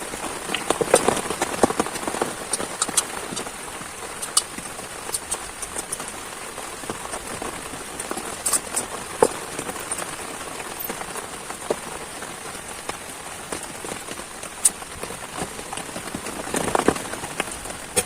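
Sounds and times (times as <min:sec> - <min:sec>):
heavy rain falling: 0:00.0 - 0:18.0
raindrops tapping close by: 0:00.0 - 0:18.0.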